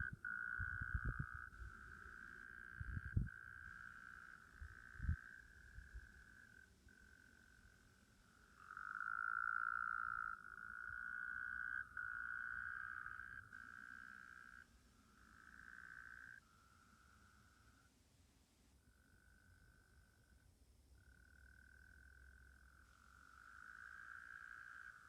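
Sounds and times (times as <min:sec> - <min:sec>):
frogs trilling in chorus: 0:00.0 - 0:17.9, 0:21.0 - 0:25.0.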